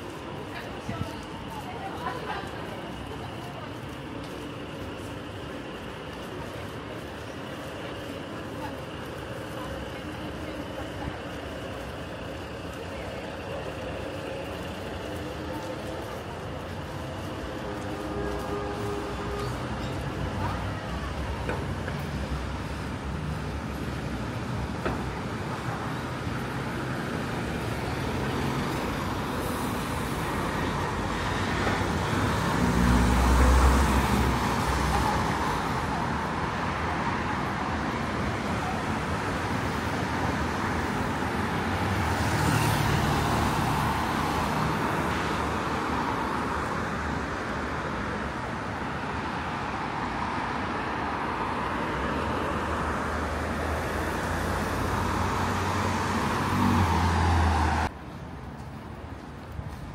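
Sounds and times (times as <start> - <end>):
heavy vehicle low rumble: 0.0 - 50.2
city road traffic: 0.0 - 59.9.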